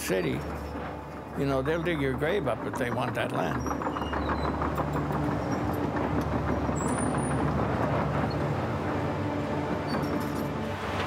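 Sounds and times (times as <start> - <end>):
heavy vehicle engine droning: 0.0 - 11.0.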